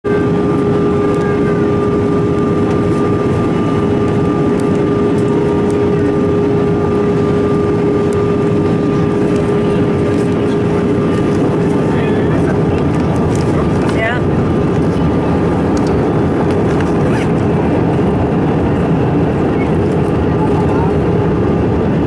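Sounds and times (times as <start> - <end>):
jet engines humming: 0.0 - 22.0
rushing air in aircraft cabin: 0.1 - 22.0.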